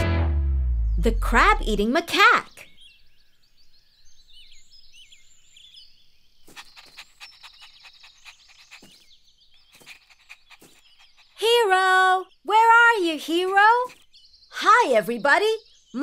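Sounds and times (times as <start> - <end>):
high bird chirps: 1.3 - 16.0.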